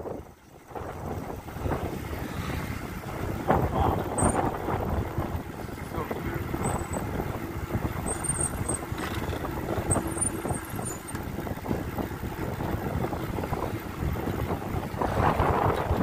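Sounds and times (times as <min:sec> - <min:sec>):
road noise: 0:00.0 - 0:16.0
vehicle engine: 0:00.0 - 0:16.0
wind rushing over microphone: 0:00.0 - 0:16.0.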